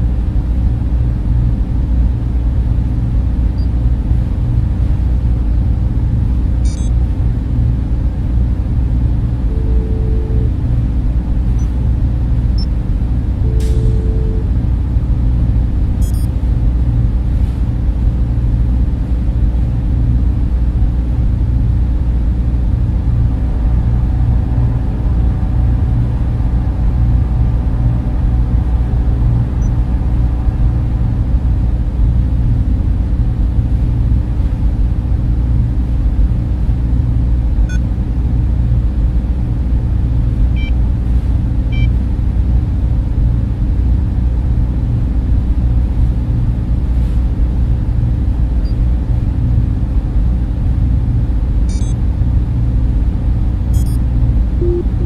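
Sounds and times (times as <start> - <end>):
cooling fans humming: 0.0 - 55.0.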